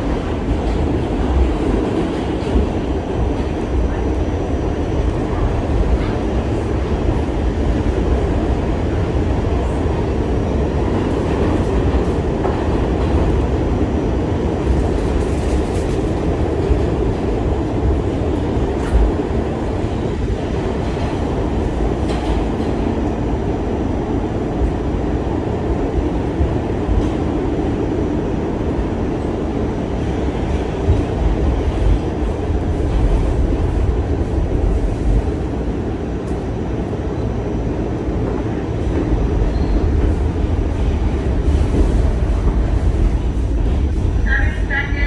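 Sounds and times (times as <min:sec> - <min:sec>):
subway train wheels rumbling: 0:00.0 - 0:45.0.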